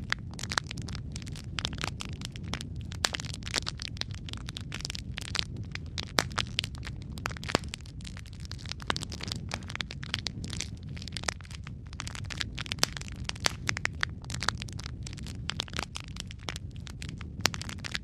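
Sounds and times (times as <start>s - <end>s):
fire pops and snaps: 0.0s - 18.0s
wood fire crackling: 0.0s - 18.0s.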